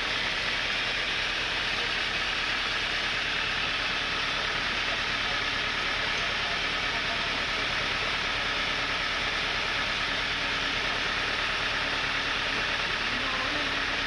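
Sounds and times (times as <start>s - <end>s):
sawmill machinery rushing: 0.0s - 14.0s.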